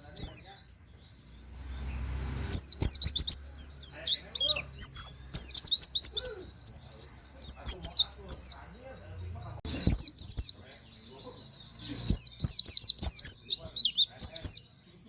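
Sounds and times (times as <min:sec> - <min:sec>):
bird singing high chirps: 0:00.0 - 0:15.0.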